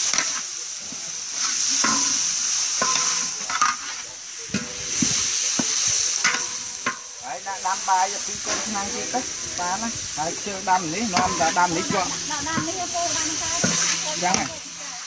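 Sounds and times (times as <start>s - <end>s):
paste sizzling in hot oil: 0.0s - 15.0s
metal spatula scraping wok: 1.3s - 15.0s.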